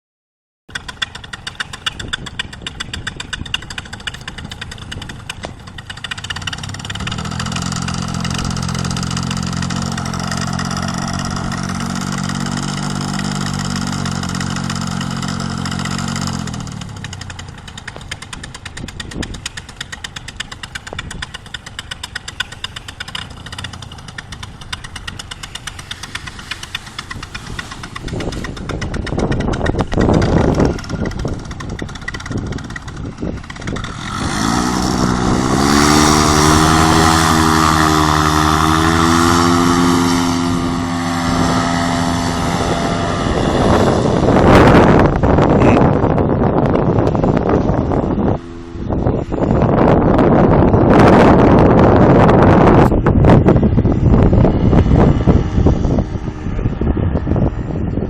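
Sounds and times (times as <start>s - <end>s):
two-stroke engine revving: 0.7s - 58.0s.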